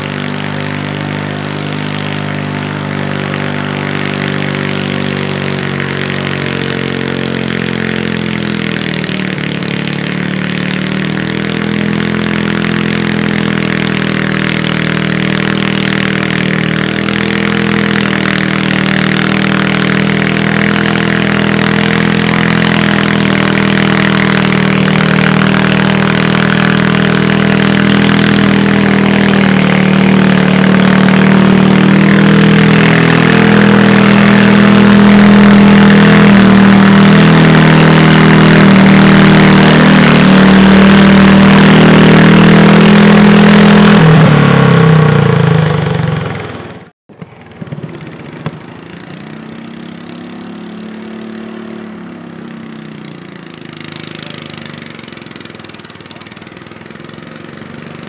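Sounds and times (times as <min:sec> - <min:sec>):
engine revving: 0:00.0 - 0:58.0
tractor engine running hard: 0:00.0 - 0:58.0.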